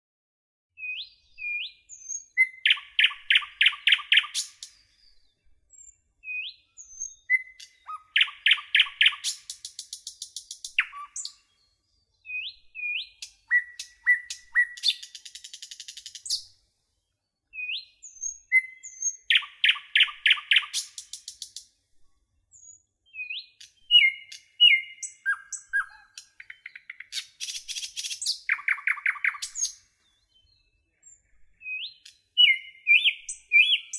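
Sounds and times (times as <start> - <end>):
songbird whistles and trills: 0.8 - 16.6, 17.2 - 21.7, 22.5 - 33.9.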